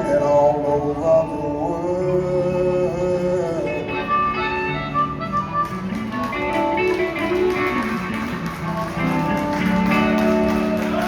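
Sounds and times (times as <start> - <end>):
blues band playing: 0.0 - 11.0
electric guitar: 0.0 - 11.0.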